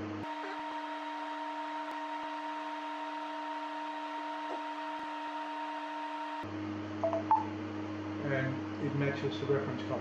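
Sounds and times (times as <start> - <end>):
deep mains hum: 0.0 - 10.0
electrical hum of electronics: 0.0 - 10.0.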